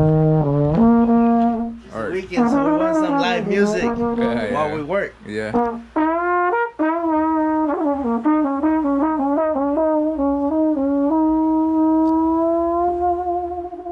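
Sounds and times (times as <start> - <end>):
brass instrument playing notes: 0.0 - 13.9.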